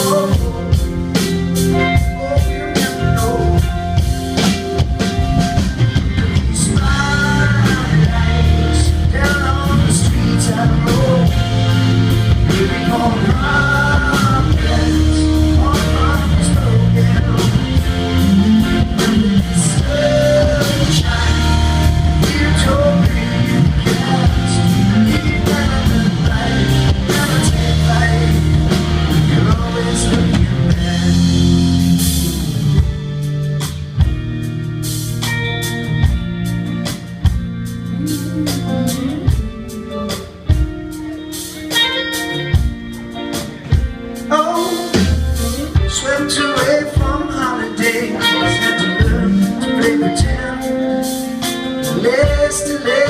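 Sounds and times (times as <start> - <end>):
driving drum kit: 0.0 - 53.0
lead guitar bending notes: 0.0 - 53.0.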